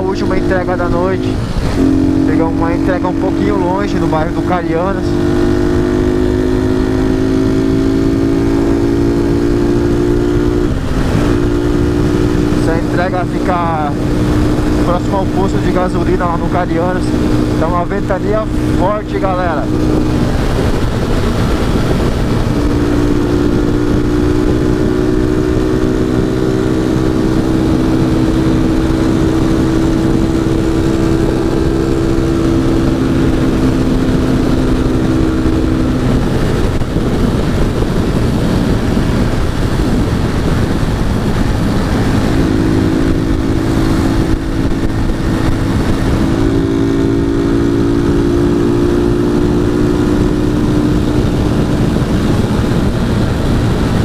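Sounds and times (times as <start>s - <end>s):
motorcycle engine cruising: 0.0s - 54.0s
wind buffeting microphone: 0.0s - 54.0s.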